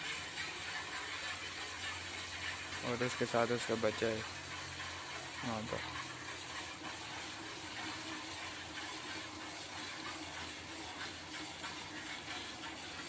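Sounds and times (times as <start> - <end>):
milk squirting into metal pail: 0.0 - 13.0.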